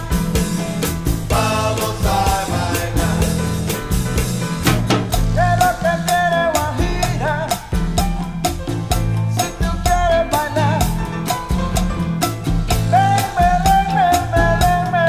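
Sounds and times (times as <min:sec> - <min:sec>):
upbeat song with singing: 0:00.0 - 0:11.8, 0:12.6 - 0:15.0.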